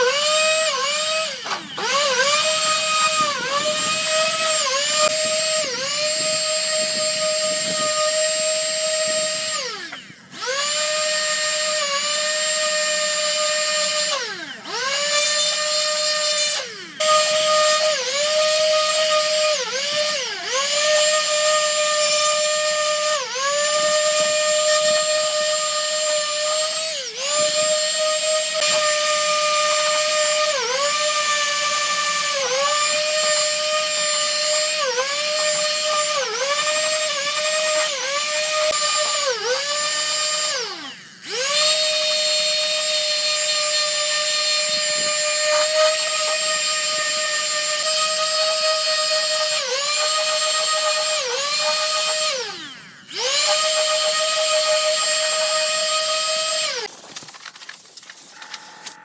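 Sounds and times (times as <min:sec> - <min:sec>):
electric power tool whining: 0:00.0 - 0:57.0, 0:58.0 - 0:59.0.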